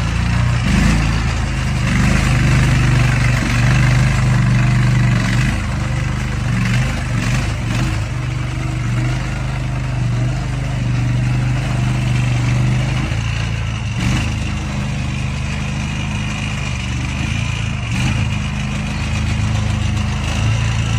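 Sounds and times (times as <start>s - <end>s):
gasoline engine running: 0.0s - 20.9s.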